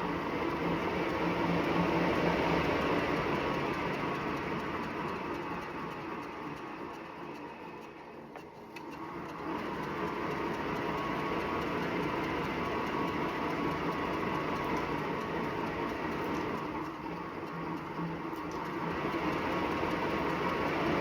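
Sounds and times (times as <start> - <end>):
exercise bike whirring: 0.0 - 21.0.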